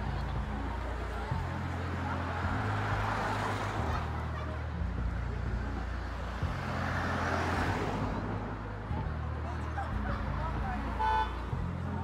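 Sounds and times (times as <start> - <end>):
cars driving past: 0.0 - 12.0
low traffic hum: 0.0 - 12.0.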